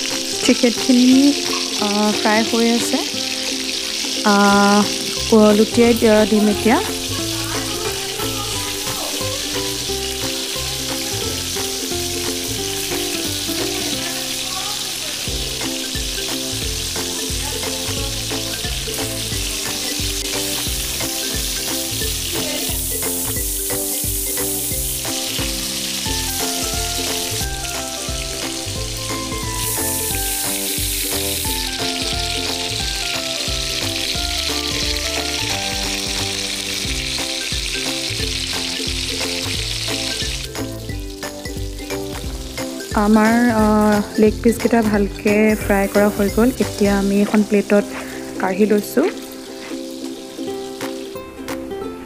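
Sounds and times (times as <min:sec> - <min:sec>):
chicken sizzling in hot oil: 0:00.0 - 0:51.8
background music: 0:00.0 - 0:52.0.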